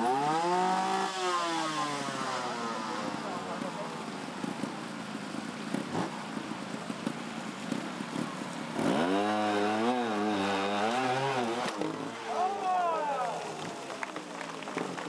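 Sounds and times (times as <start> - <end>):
motorcycle engine revving: 0.0 - 12.3.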